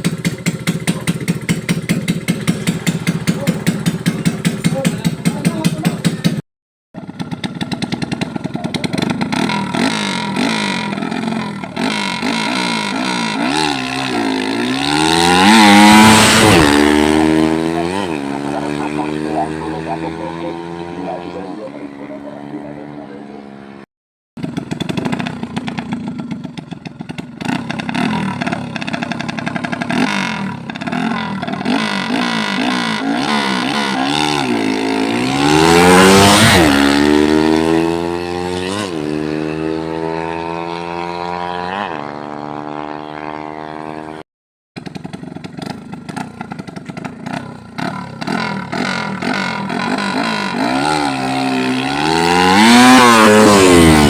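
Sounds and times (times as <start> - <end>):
motorcycle engine revving: 0.0 - 6.4, 7.0 - 44.2, 44.8 - 54.0.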